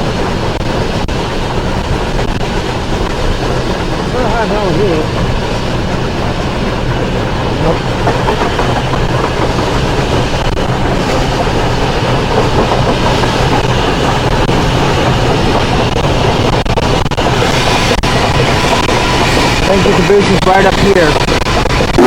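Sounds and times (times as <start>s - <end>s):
railroad cars rolling past: 0.0s - 22.0s
wheels clacking over rail joints: 0.0s - 22.0s.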